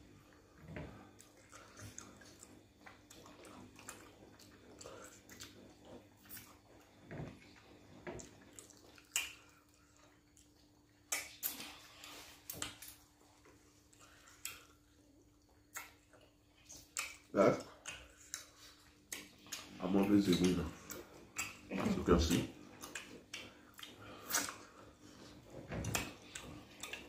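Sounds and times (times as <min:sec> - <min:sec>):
wet chewing and lip smacks: 0:01.0 - 0:27.0.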